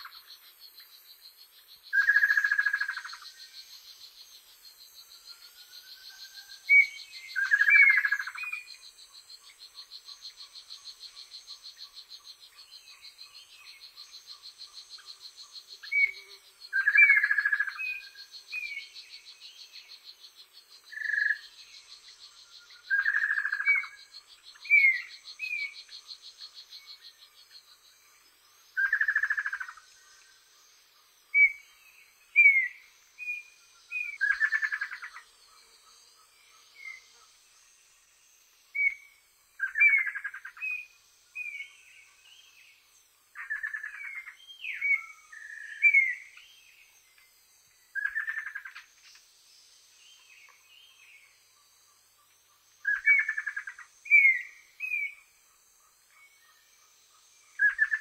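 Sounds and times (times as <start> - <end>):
birds chirping: 0.0 - 55.4.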